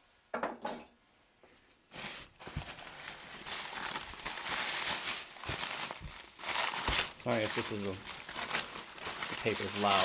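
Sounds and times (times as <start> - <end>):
packing paper crinkling: 1.9 - 10.0.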